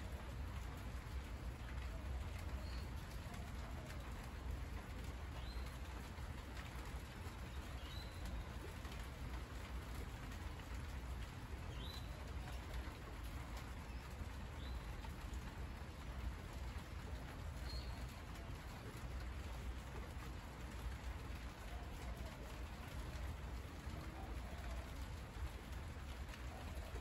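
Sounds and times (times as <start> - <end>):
rain on leaves: 0.0 - 27.0.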